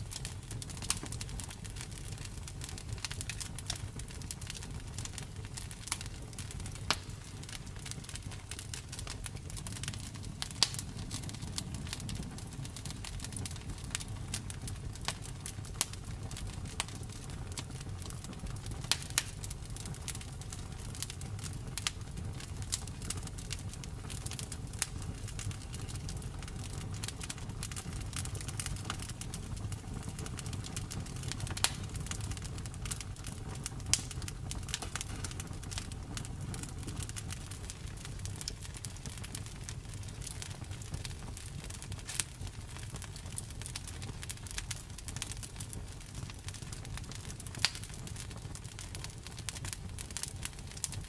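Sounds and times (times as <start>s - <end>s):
sharp pops of fire: 0.0s - 51.0s
wood fire crackling: 0.0s - 51.0s.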